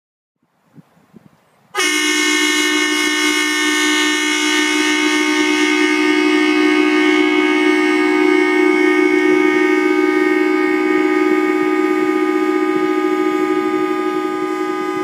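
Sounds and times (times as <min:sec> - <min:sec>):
air train horn chord: 0:01.8 - 0:15.0.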